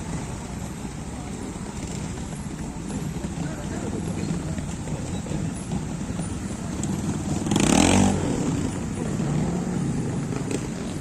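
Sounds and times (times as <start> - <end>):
motorcycle engine revving: 1.6 - 11.0.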